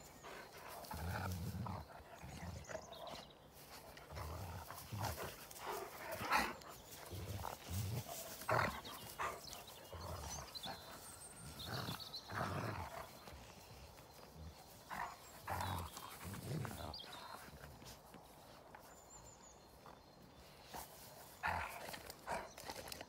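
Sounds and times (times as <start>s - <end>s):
dogs growling and grunting: 0.0s - 18.1s, 20.8s - 23.0s.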